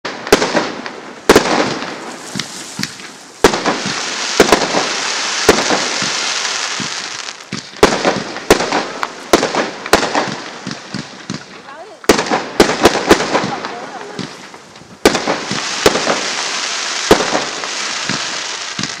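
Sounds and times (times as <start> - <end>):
firework bangs: 0.0 - 19.0
crackling hiss of fireworks: 0.1 - 19.0.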